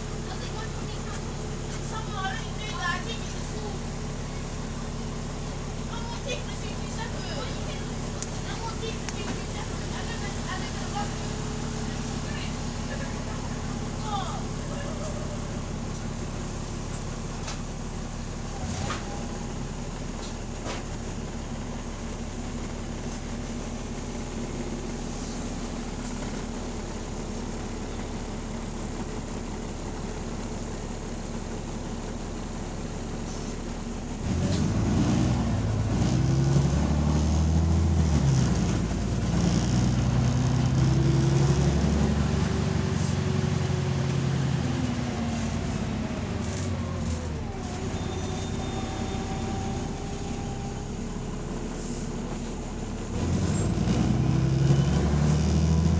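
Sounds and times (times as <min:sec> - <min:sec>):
bus accelerating: 0:00.0 - 0:55.9
bus engine idling: 0:00.0 - 0:55.9.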